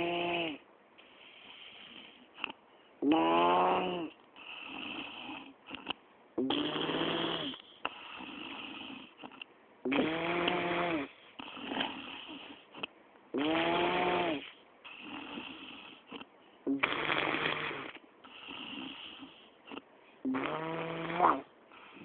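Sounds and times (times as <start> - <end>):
person snoring heavily: 0.0 - 0.6, 3.0 - 12.7, 13.4 - 22.0
soft breaths: 0.0 - 13.4, 14.0 - 20.6, 21.2 - 22.0.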